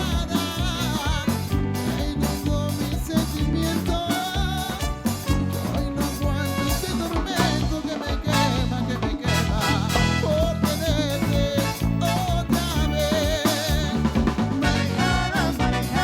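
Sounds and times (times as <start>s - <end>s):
live dance band playing: 0.0s - 16.0s.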